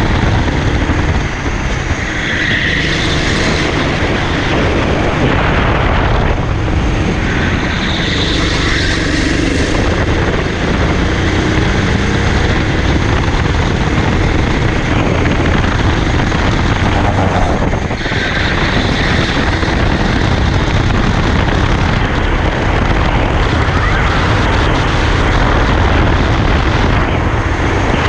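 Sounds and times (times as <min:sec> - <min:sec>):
two-stroke kart engine: 0:00.0 - 0:28.0
wind noise on microphone: 0:00.0 - 0:28.0.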